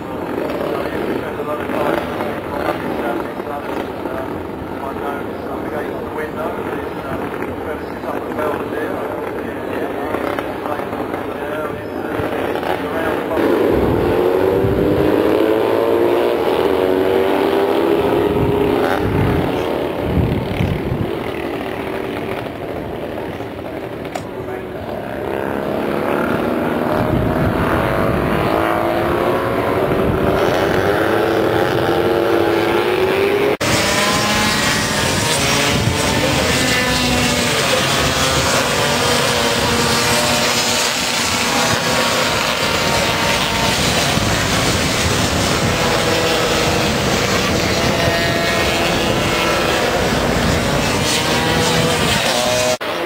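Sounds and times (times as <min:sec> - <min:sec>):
racing scooter engines whining: 0:00.0 - 0:53.0.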